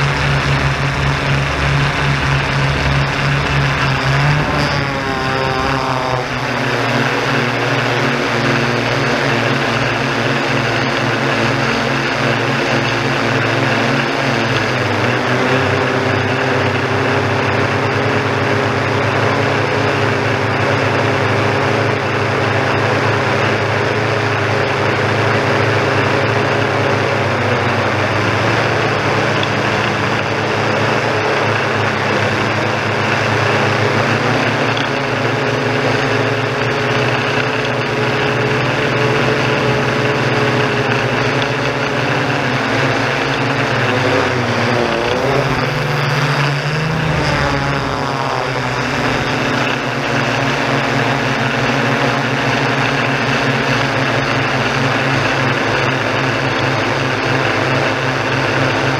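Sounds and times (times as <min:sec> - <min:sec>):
drone propellers humming: 0:00.0 - 0:58.9.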